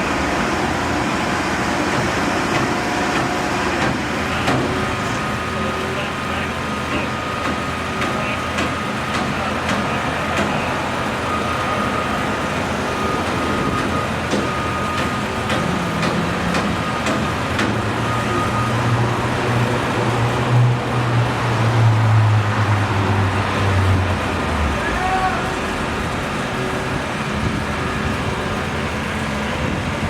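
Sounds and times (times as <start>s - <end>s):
low engine hum: 0.0s - 30.0s
road traffic noise: 0.0s - 30.0s.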